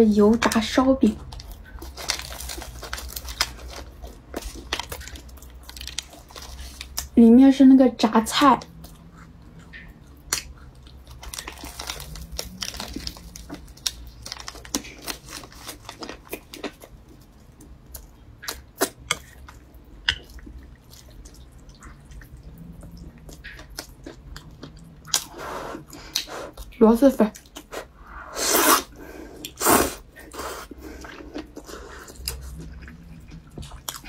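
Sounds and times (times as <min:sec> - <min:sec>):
crisp chewing crunches: 0:00.3 - 0:07.2, 0:08.6 - 0:27.9, 0:28.5 - 0:34.0.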